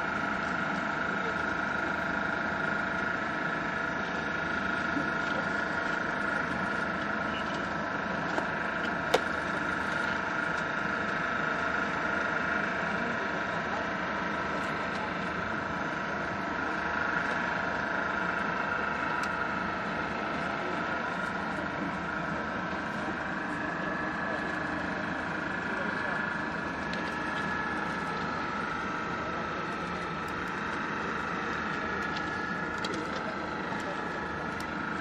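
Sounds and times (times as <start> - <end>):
diesel engine idling drone: 0.0 - 35.0.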